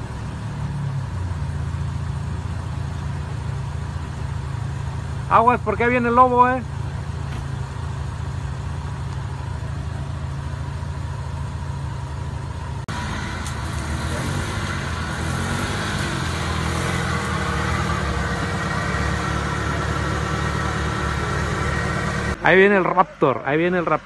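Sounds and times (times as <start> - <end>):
car engine driving up: 0.0 - 24.0
car engines idling: 0.0 - 24.0.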